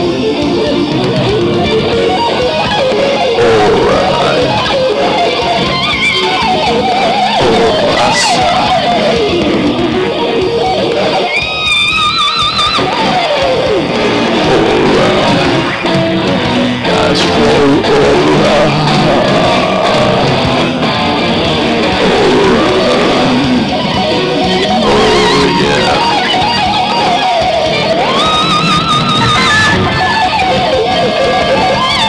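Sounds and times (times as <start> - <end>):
loud rock music with guitar: 0.0 - 32.0.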